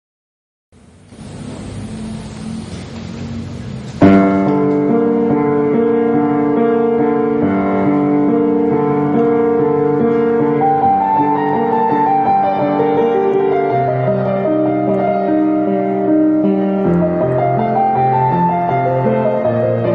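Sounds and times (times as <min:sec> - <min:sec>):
noisy hiss: 0:00.7 - 0:19.9
slow piano music: 0:00.8 - 0:19.9.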